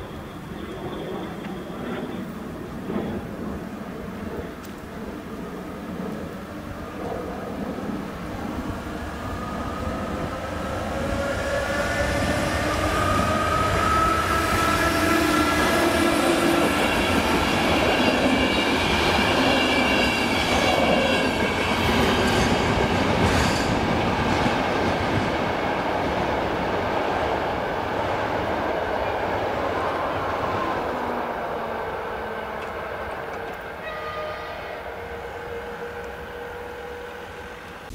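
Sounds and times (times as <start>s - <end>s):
train whine rising in pitch: 0.0s - 4.1s, 5.6s - 37.9s
passenger train rolling past: 0.0s - 37.9s.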